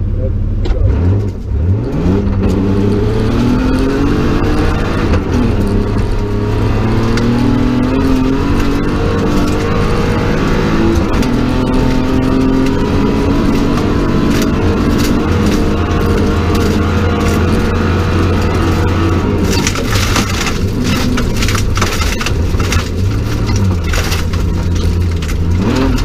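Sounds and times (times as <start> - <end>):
rally car engine accelerating: 0.0 - 26.0.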